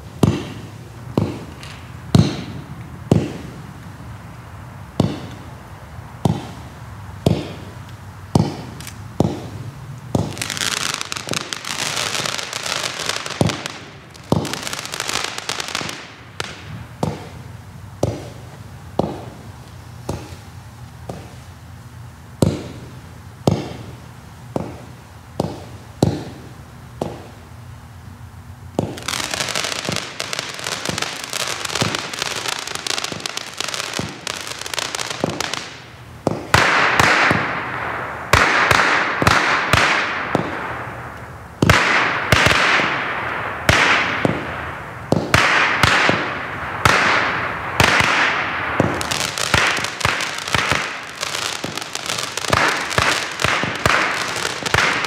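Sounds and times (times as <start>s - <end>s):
loud firework bursts: 0.0s - 27.6s, 28.7s - 55.0s
firework shots popping: 0.2s - 4.0s, 4.9s - 5.5s, 6.2s - 21.5s, 22.4s - 24.0s, 24.6s - 27.4s, 28.8s - 55.0s.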